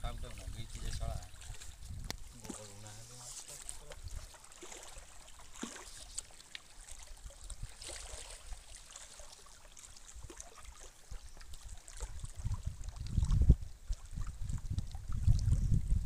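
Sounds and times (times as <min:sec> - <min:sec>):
water lapping against rocks: 0:00.0 - 0:16.0.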